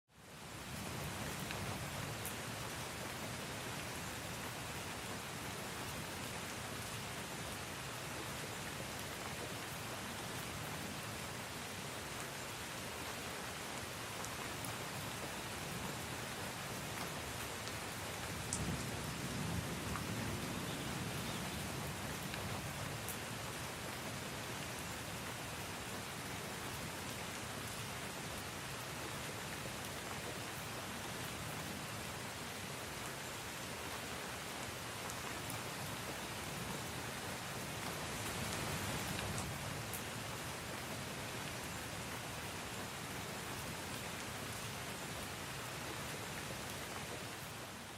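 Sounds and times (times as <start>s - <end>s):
steady rain falling: 0.1s - 47.9s.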